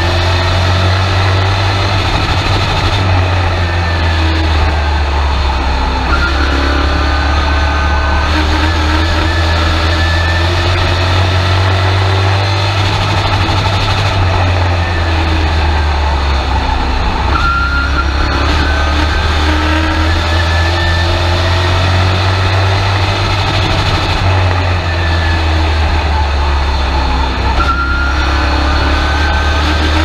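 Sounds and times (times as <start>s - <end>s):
truck engine running hard: 0.0s - 30.0s.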